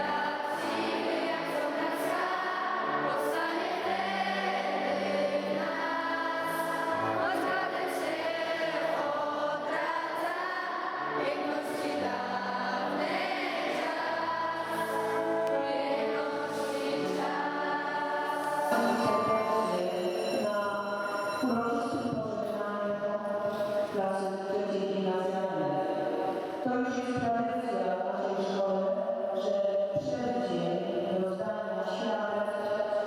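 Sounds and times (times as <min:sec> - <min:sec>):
slow choral music: 0:00.0 - 0:26.7.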